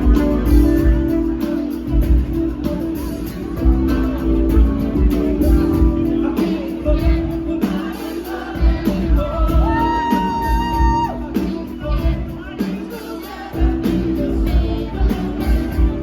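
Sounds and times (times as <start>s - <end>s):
bass and kick drum beat: 0.0s - 13.0s, 13.6s - 16.0s
keyboard chords: 0.0s - 16.0s
person singing: 0.0s - 16.0s.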